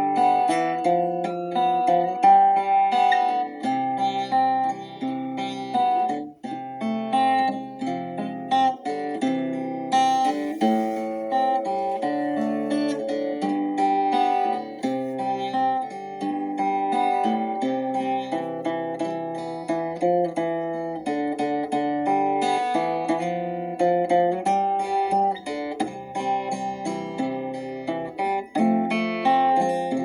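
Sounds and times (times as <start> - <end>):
acoustic guitar worship music: 0.0 - 30.0.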